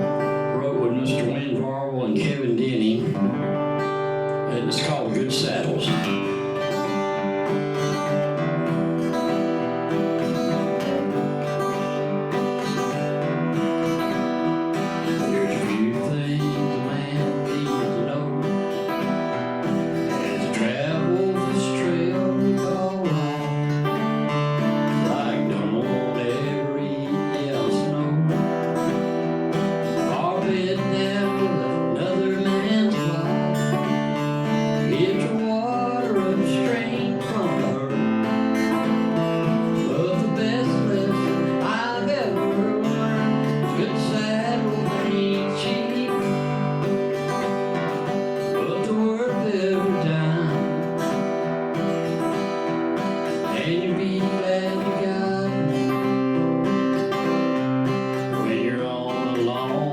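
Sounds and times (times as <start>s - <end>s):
man singing: 0.0s - 59.9s
strummed acoustic guitar: 0.0s - 59.9s.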